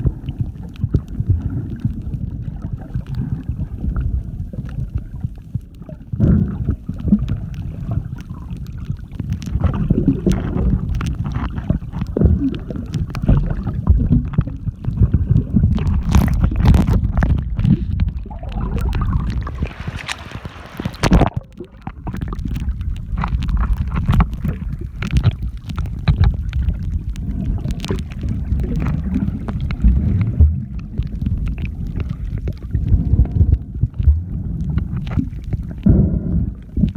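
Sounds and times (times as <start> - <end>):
bubbling: 0.0 - 36.9
muffled underwater rumble: 0.0 - 36.9
underwater clicks: 0.0 - 36.9.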